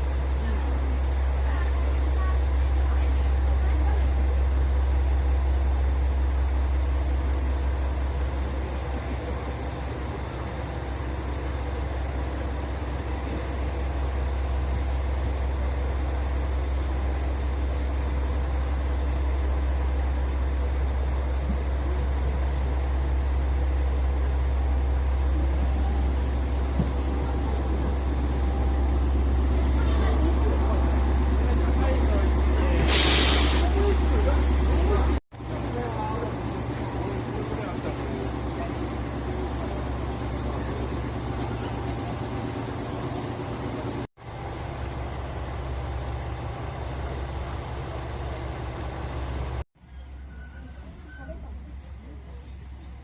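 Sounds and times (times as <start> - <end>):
electric train humming: 0.0 - 53.0.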